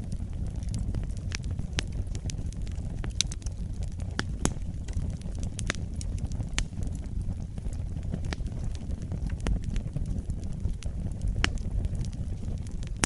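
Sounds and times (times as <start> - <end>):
fire crackling and popping: 0.0 - 13.0
fire flames rumbling: 0.0 - 13.0.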